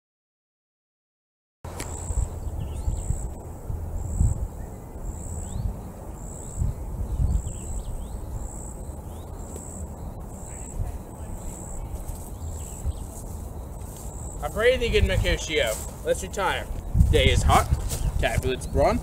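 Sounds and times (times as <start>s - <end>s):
birds chirping: 1.7s - 19.0s.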